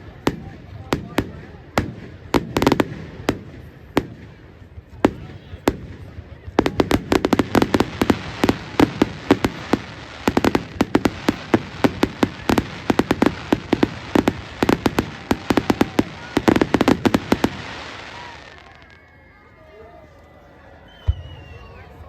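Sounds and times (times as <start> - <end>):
fireworks bangs and crackles: 0.0 - 19.1.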